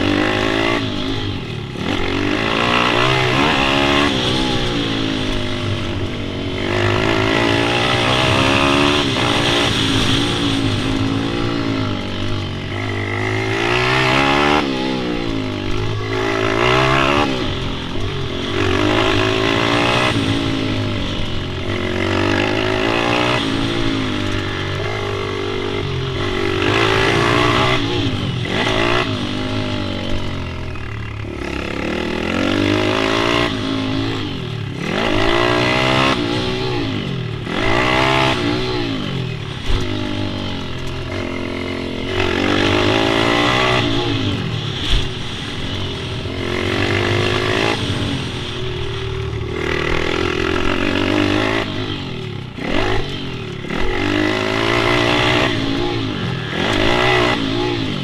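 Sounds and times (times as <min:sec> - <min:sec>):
pit bike engines revving: 0:00.0 - 0:58.0.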